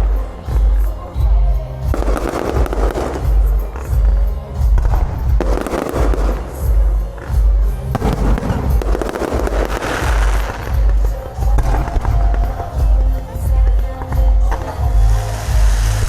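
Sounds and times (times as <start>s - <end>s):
fireworks banging and crackling: 0.0s - 16.0s
music with heavy bass beat: 0.0s - 16.0s.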